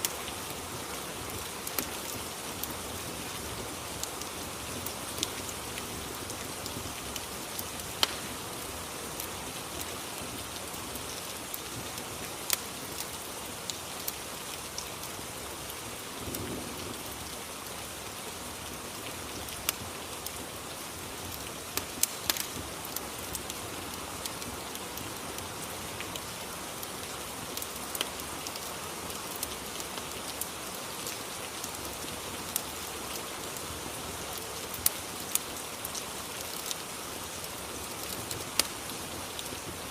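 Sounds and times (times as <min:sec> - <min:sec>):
fire crackling: 0:00.0 - 0:39.9
steady rain: 0:00.0 - 0:39.9.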